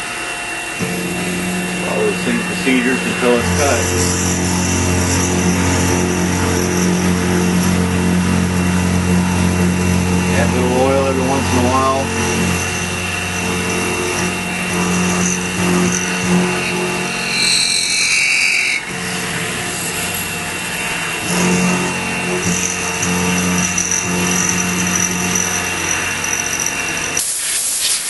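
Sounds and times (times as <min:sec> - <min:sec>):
milling machine cutting metal: 0:00.0 - 0:27.8.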